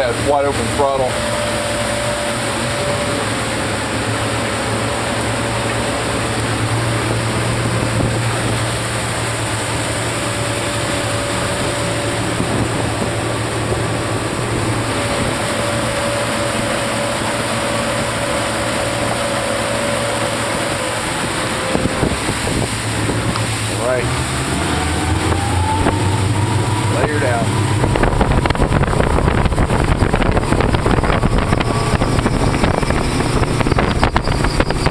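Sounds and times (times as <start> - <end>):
engine hum: 0.0 - 34.9
outboard engines running: 0.0 - 34.9
water rushing: 0.0 - 34.9
wind: 0.0 - 34.9.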